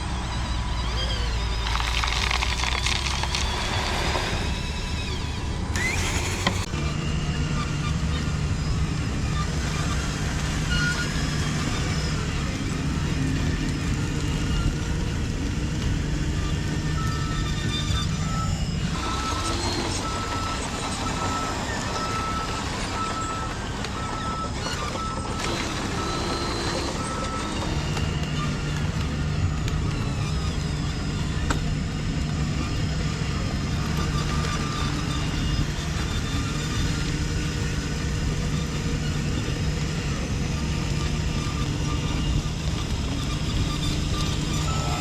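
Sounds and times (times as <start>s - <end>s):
reversing beeper: 0.0s - 45.0s
toy machinery motor and gears: 0.0s - 45.0s.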